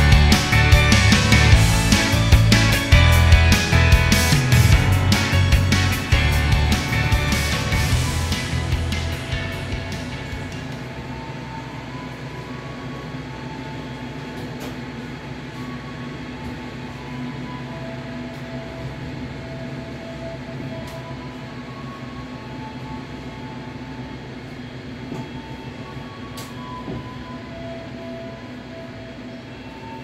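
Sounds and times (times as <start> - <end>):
train low hum: 0.0 - 30.0.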